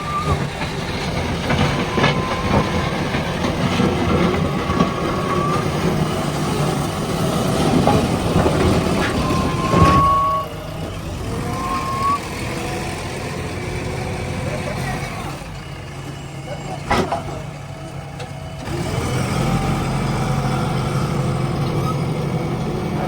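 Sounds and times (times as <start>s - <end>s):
diesel engine working under load: 0.0s - 23.0s.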